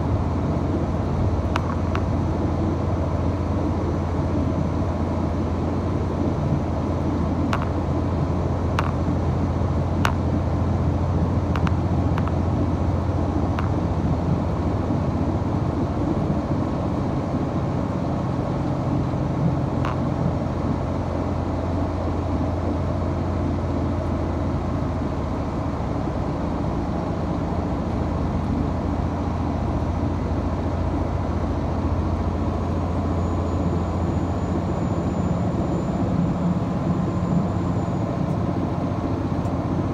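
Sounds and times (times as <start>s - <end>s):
train diesel engine drone: 0.0s - 39.9s.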